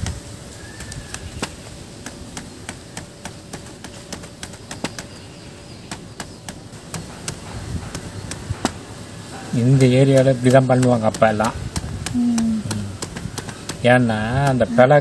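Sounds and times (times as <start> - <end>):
knife chopping on plastic board: 0.0 - 5.2, 5.8 - 8.9, 9.8 - 14.7.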